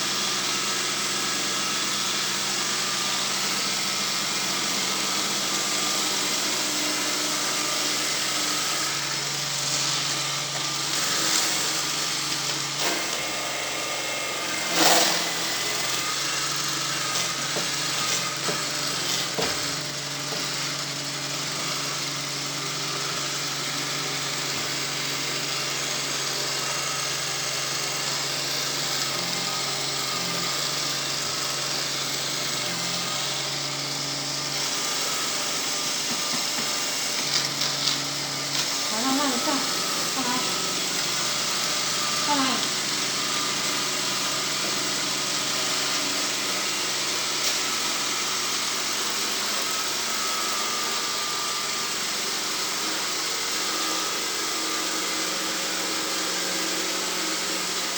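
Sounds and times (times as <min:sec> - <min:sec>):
sweeping machine running: 0:00.0 - 0:57.9.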